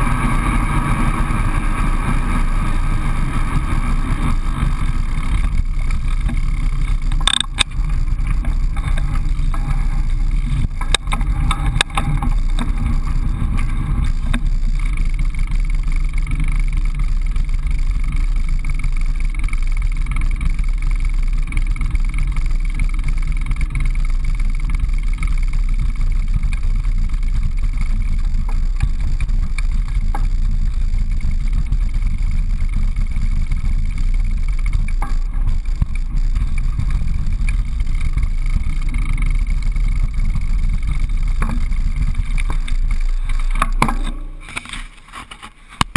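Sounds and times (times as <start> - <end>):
bike tyre noise: 0.0 - 45.9
wind rumble: 0.0 - 45.9.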